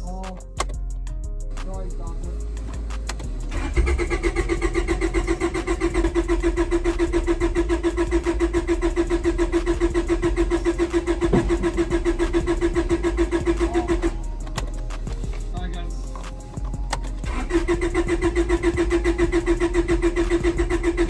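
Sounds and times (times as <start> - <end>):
starter motor cranking engine: 2.4 - 15.5, 16.1 - 21.0.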